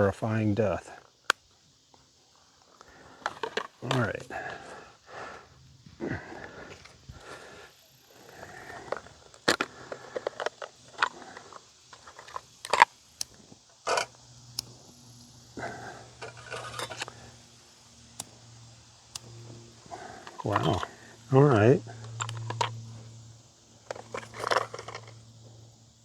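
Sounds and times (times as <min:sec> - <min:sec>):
camp stove gear clicks and scrapes: 0:02.6 - 0:04.8, 0:06.4 - 0:25.5.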